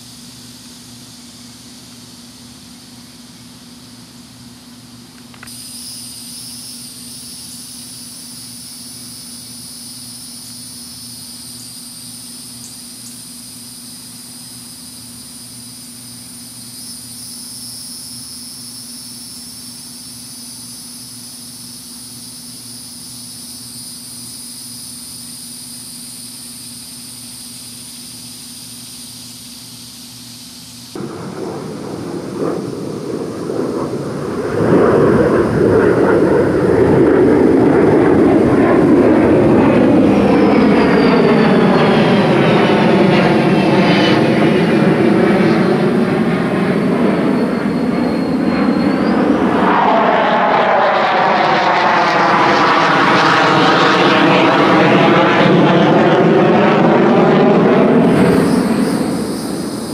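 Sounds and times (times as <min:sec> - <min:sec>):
aircraft engine flying over: 0:00.0 - 0:59.9.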